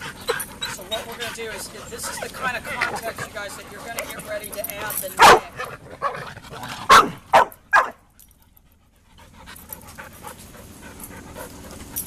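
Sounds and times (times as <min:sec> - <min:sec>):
dog panting: 0:00.0 - 0:07.5, 0:08.4 - 0:12.0.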